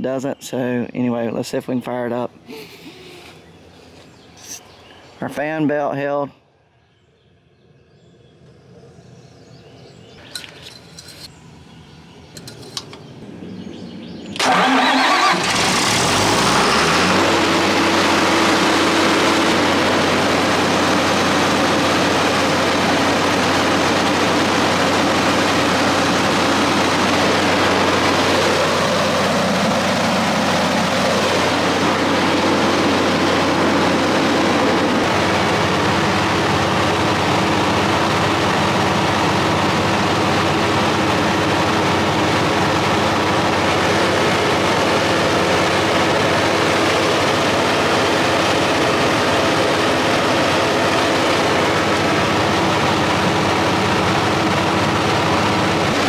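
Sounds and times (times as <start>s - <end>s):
generator engine running: 8.2s - 56.0s.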